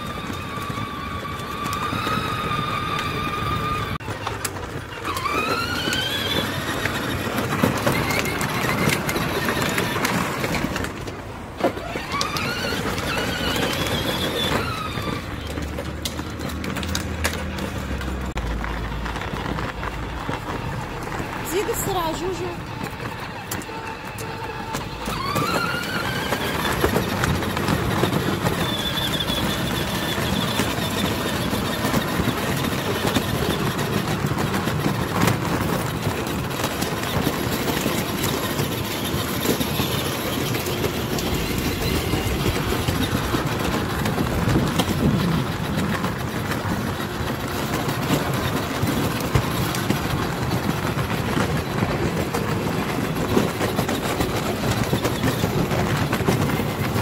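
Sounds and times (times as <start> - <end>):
plastic wheels rumbling on paving: 0.0 - 57.0.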